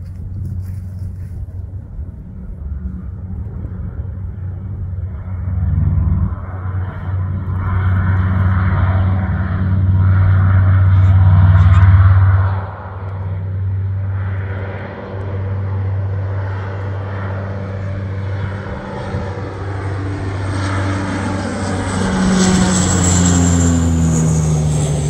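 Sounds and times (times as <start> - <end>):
propeller plane flying overhead: 0.0 - 25.0.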